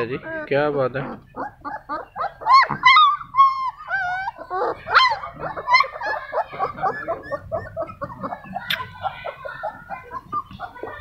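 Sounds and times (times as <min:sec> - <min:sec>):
puppies whining and yipping: 0:00.0 - 0:11.0.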